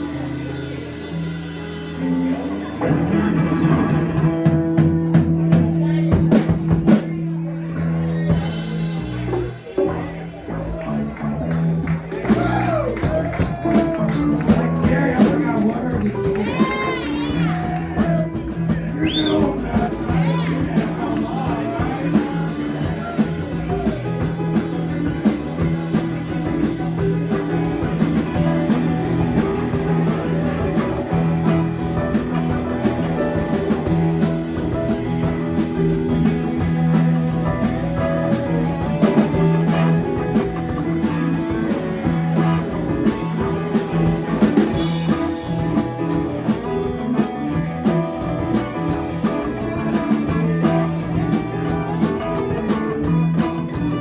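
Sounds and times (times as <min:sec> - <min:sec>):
steady drum beat: 0:00.0 - 0:10.4, 0:11.5 - 0:54.0
band playing blues-rock: 0:00.0 - 0:54.0.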